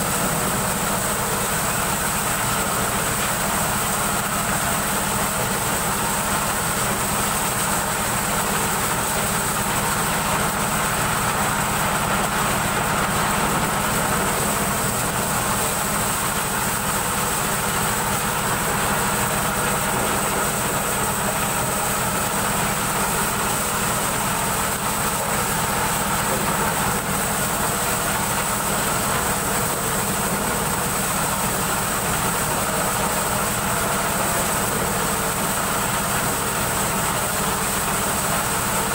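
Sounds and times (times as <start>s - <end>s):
corn sheller machine running: 0.0s - 38.9s.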